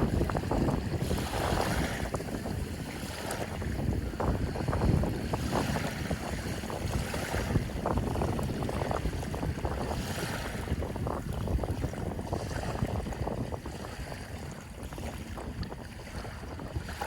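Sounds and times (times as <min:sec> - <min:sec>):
sea waves splashing: 0:00.0 - 0:17.0
wind rumbling on microphone: 0:00.0 - 0:17.0.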